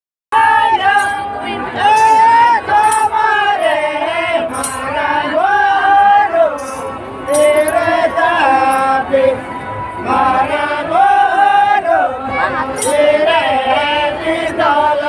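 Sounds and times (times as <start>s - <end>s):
group singing traditional song: 0.3s - 15.0s.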